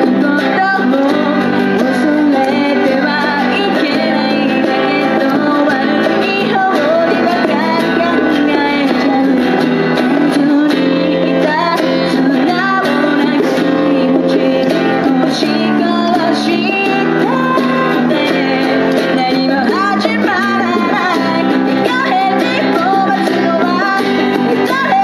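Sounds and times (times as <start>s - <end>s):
guitar accompaniment: 0.0s - 25.0s
person singing: 0.0s - 25.0s.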